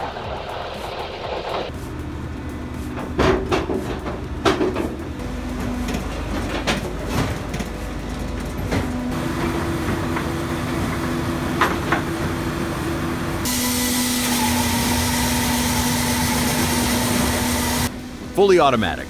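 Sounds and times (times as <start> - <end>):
heavy engine running: 0.0 - 19.0.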